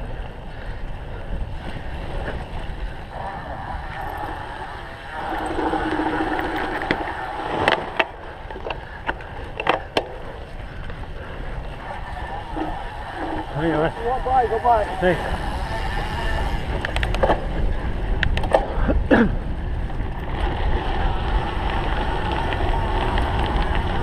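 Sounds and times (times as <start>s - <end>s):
bike rattling over rough ground: 0.0s - 24.0s
wind buffeting microphone: 0.0s - 24.0s.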